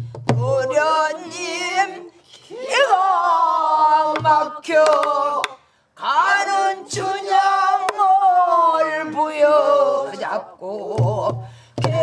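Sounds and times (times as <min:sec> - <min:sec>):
group of voices singing: 0:00.4 - 0:12.0
woman singing with vibrato: 0:00.4 - 0:12.0.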